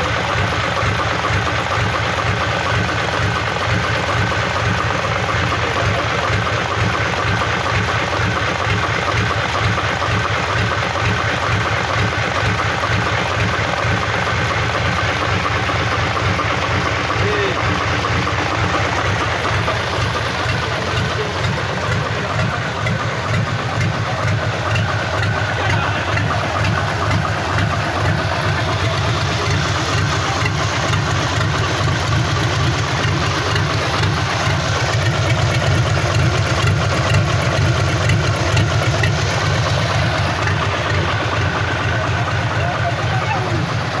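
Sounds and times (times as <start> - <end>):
diesel engine idling: 0.0 - 44.0.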